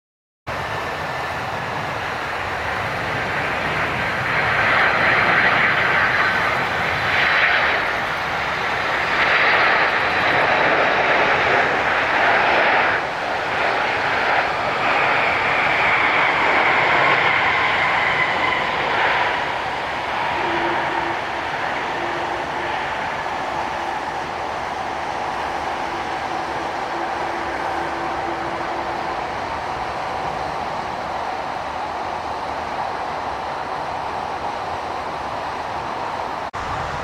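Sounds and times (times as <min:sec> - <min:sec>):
jet engines whining: 0:00.5 - 0:37.0.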